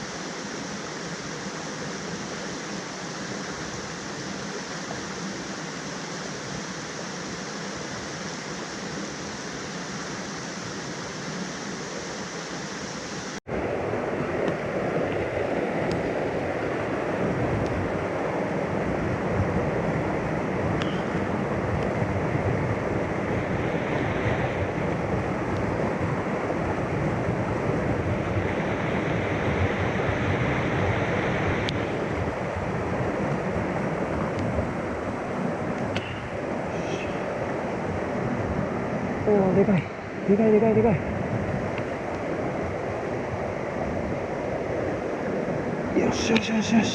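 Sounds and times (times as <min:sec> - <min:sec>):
mountain stream rushing: 0:00.0 - 0:46.9.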